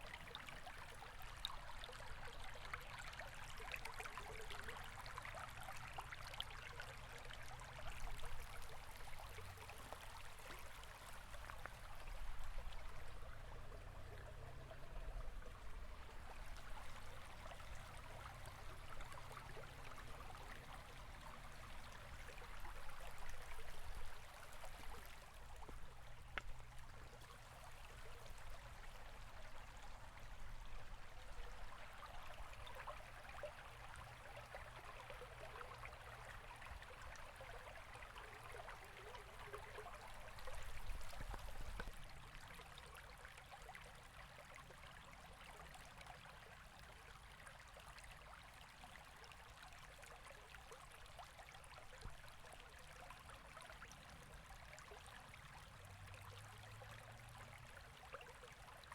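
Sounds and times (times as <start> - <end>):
river water babbling: 0.0 - 58.9.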